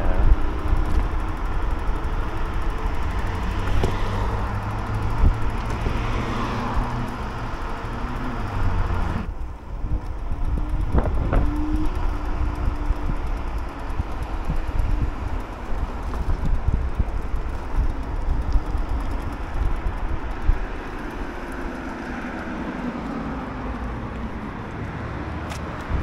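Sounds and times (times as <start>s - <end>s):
car traffic passing: 0.0s - 26.0s
wind rumble on microphone: 0.0s - 26.0s.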